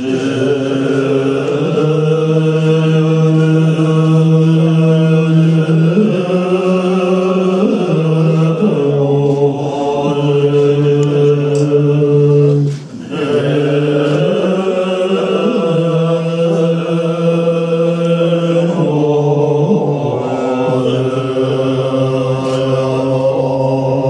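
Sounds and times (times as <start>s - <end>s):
monks chanting in unison: 0.0s - 24.0s.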